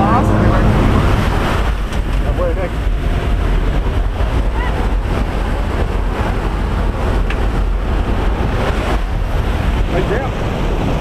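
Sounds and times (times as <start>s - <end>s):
aircraft engine and propeller drone: 0.0s - 11.0s
rushing air: 0.0s - 11.0s.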